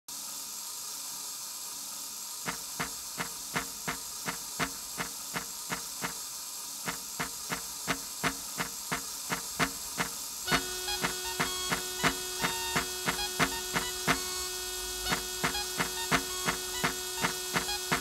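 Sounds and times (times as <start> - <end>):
steady hiss: 0.1 - 18.0
clockwork mechanical ticking: 2.5 - 6.2, 6.8 - 18.0.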